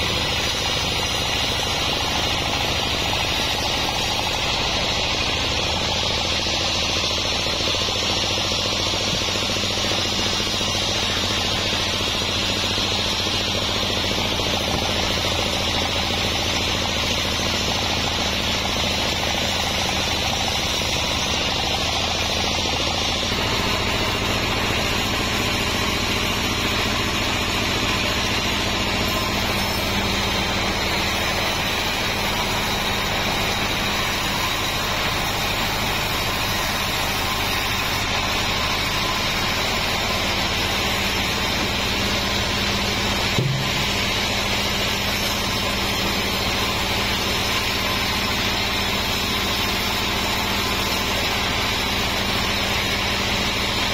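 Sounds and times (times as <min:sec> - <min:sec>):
band saw cutting a log: 0:00.0 - 0:53.9.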